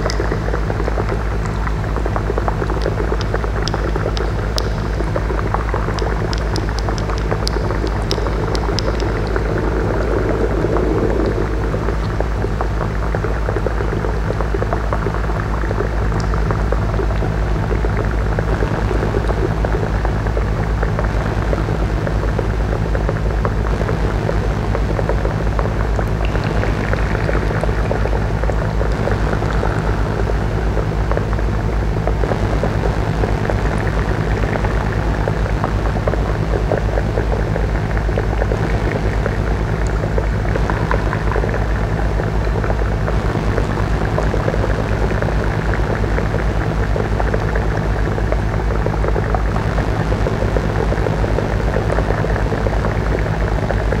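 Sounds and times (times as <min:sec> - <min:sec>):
dense crackling noise: 0:00.0 - 0:54.0
drone of low held tones: 0:00.0 - 0:54.0.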